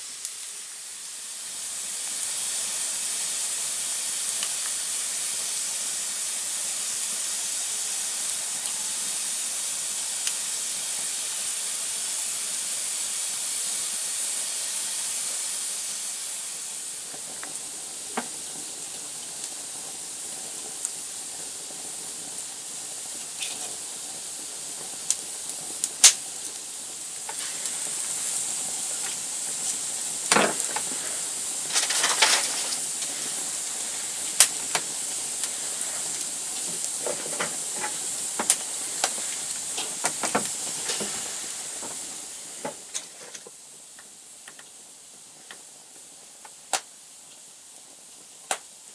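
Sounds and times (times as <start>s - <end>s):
fire crackling and popping: 0.0s - 9.1s, 9.7s - 11.2s, 16.5s - 48.9s
campfire hissing: 0.0s - 48.9s.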